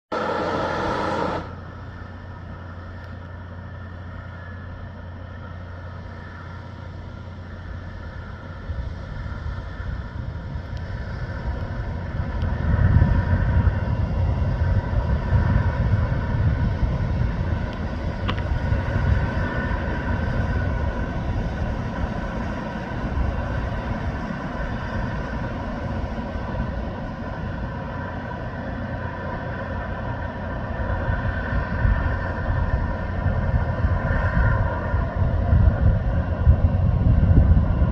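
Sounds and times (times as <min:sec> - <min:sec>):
low rumble: 0:00.0 - 0:04.1, 0:06.7 - 0:37.9
constant multi-tone hum: 0:00.1 - 0:37.9.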